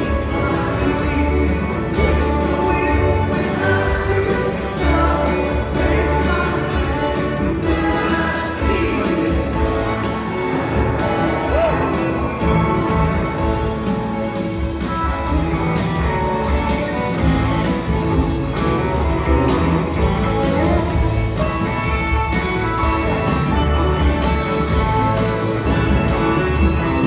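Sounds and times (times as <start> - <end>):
electric guitar: 0.0 - 27.0.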